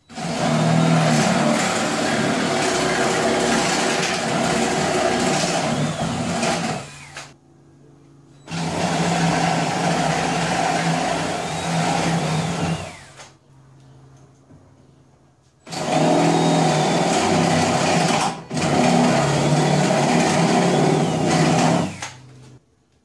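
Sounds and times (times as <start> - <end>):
power drill boring wood: 0.1 - 7.4, 8.5 - 13.3, 15.6 - 22.2.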